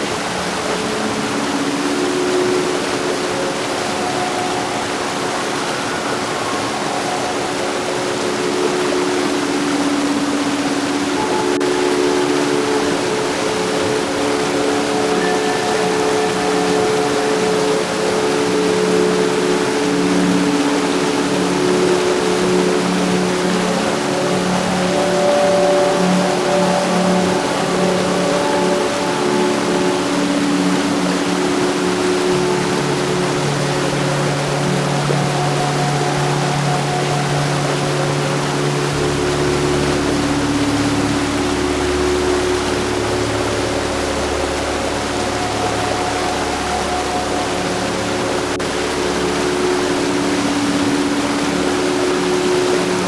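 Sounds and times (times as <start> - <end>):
faint steady hum: 0.0 - 53.0
heavy rain falling: 0.0 - 53.0.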